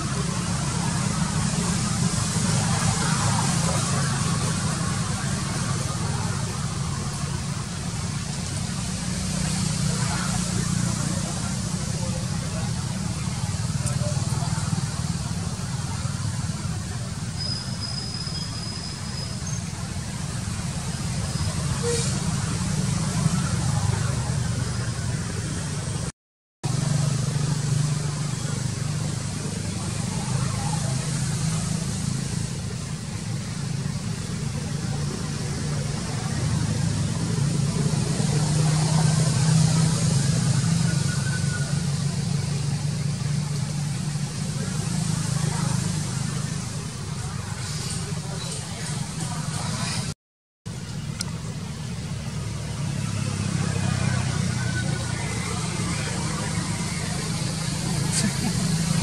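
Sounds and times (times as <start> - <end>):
low rumble with hiss: 0.0 - 50.1, 50.7 - 59.0.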